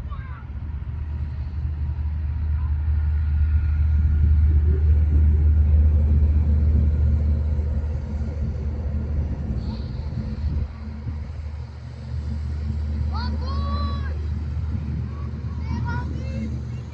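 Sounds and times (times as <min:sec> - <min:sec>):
boat engine rumble: 0:00.0 - 0:16.9
wind on microphone: 0:00.0 - 0:16.9.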